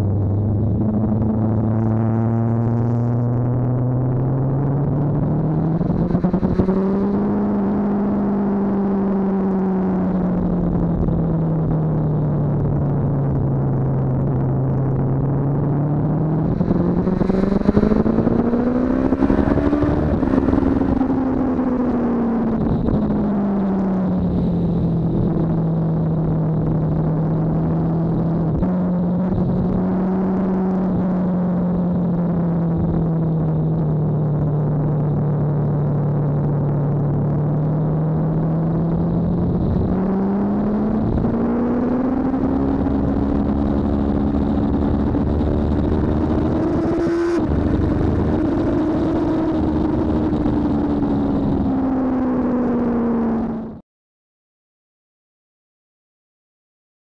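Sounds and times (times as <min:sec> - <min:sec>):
motorcycle engine revving: 0:00.0 - 0:11.4, 0:14.7 - 0:33.9, 0:37.2 - 0:53.8.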